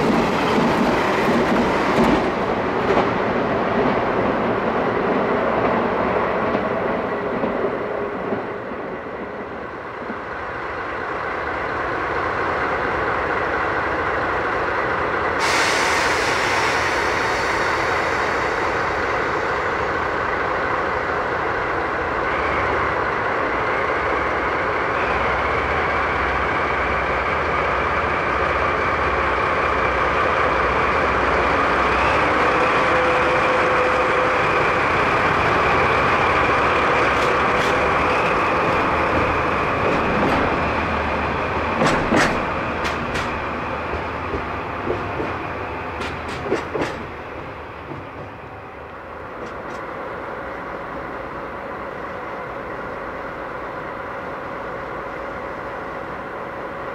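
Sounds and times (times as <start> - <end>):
diesel locomotive engines running: 0.0 - 56.9.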